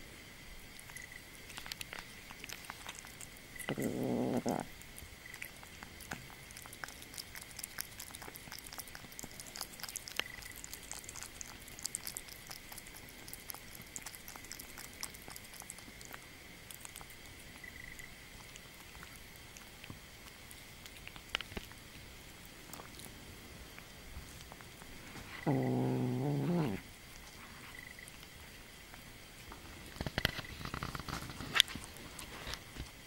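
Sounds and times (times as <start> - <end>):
kitten chewing and licking: 0.0 - 33.0.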